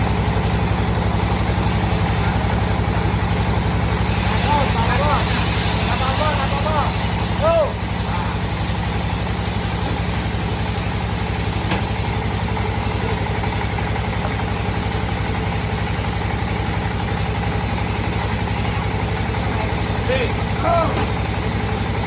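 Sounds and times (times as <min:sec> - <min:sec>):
bandsaw machine running: 0:00.0 - 0:22.0.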